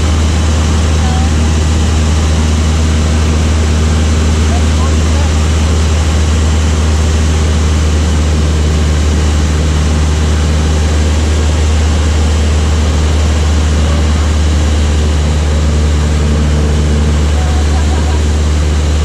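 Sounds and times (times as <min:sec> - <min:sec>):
light aircraft engine and propeller: 0:00.0 - 0:19.0.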